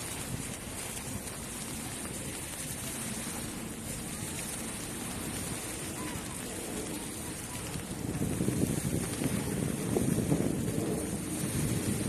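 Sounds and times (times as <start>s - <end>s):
faint distant voices: 0.0s - 12.0s
water lapping: 0.0s - 12.0s
wind: 0.0s - 12.0s.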